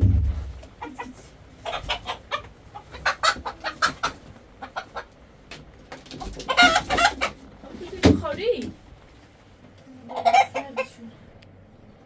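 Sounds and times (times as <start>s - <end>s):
chickens clucking: 0.0s - 8.7s, 10.0s - 11.2s.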